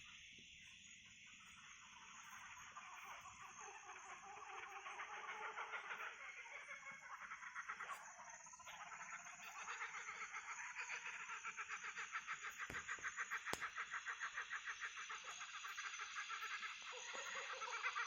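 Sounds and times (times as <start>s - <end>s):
cicadas humming: 0.0s - 18.0s
kookaburras cackling: 1.6s - 18.0s.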